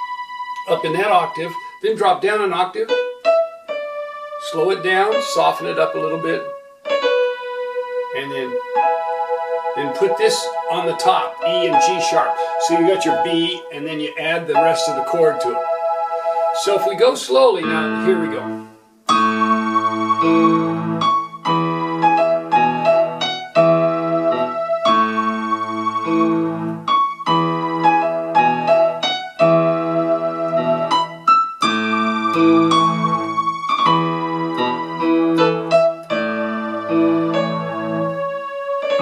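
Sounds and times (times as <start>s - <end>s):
electronic keyboard playing hymn: 0.0s - 39.0s.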